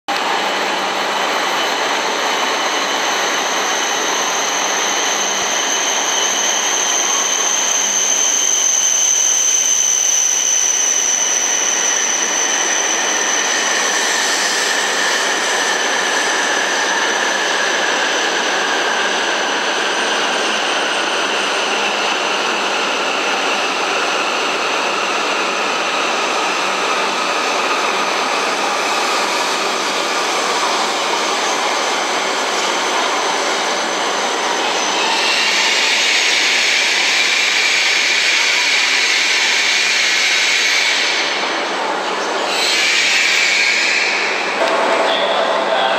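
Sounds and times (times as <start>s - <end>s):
high-speed trains rushing: 0.1s - 45.9s.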